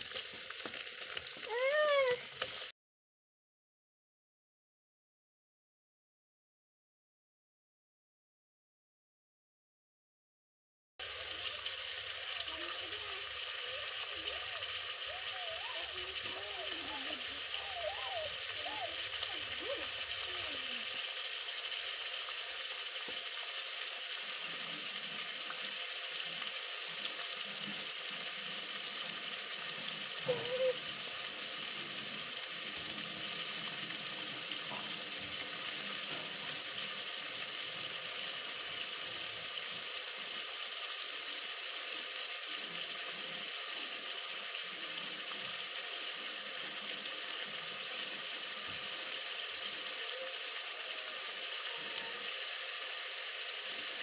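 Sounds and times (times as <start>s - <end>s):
pot sizzling over fire: 0.0s - 2.7s, 11.0s - 54.0s.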